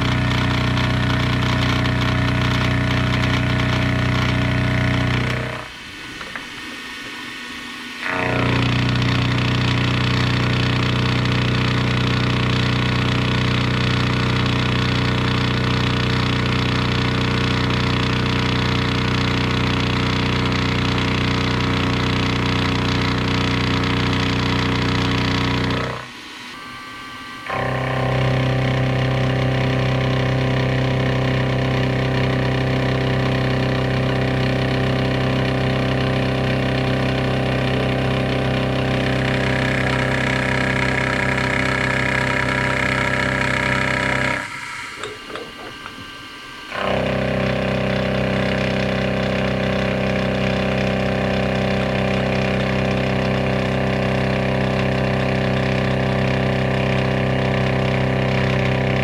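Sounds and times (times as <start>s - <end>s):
machine tool motor hum: 0.0s - 59.0s.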